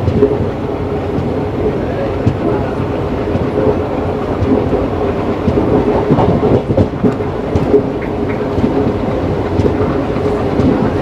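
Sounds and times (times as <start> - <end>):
sustained hum: 0.0 - 11.0
track clacks: 0.0 - 11.0
train wheels rumbling on rails: 0.0 - 11.0.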